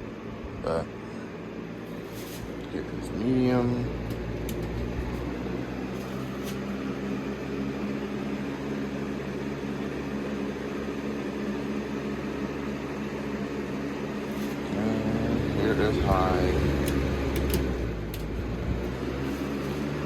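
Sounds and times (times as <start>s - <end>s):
electric fan running: 0.0s - 20.0s.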